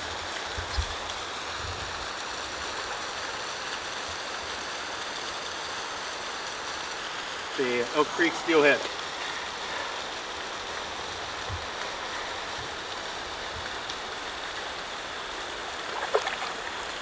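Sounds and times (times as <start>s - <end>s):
shallow creek rushing: 0.1s - 17.0s.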